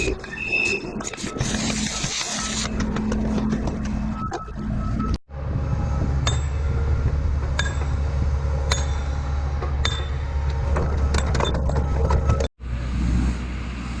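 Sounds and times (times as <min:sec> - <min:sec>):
low engine hum: 0:02.7 - 0:14.0.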